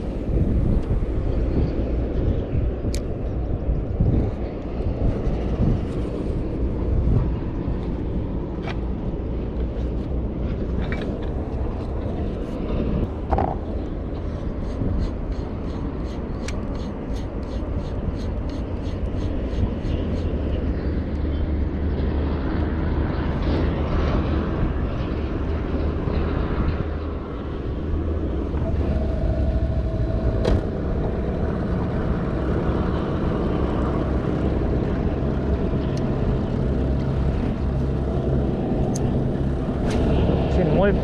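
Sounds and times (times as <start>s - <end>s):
wind and water noise: 0.0s - 41.0s.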